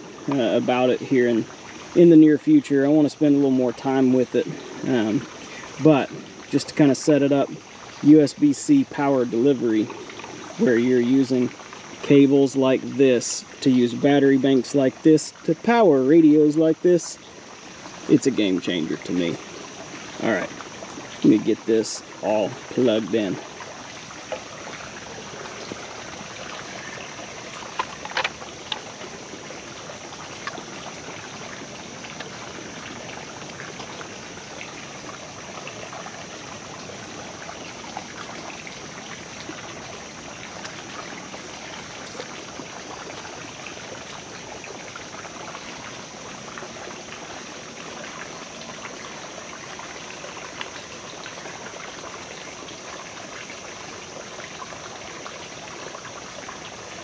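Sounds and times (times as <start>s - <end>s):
creek water flowing: 0.0s - 57.0s.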